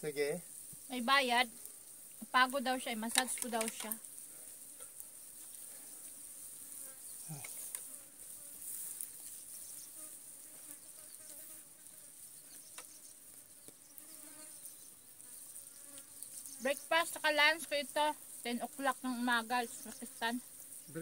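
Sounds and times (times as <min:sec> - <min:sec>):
flies buzzing: 0:00.0 - 0:21.0
insects chirring: 0:00.0 - 0:21.0.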